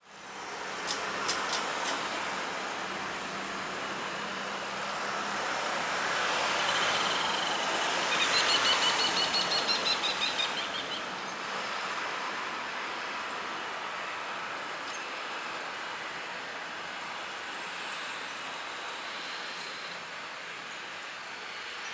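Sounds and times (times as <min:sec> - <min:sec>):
helicopter turbine and rotor noise: 0:00.1 - 0:21.9.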